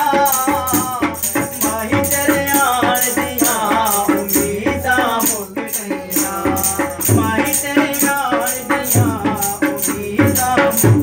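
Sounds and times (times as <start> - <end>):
man singing: 0.0 - 11.0
tambourine jingles: 0.0 - 11.0.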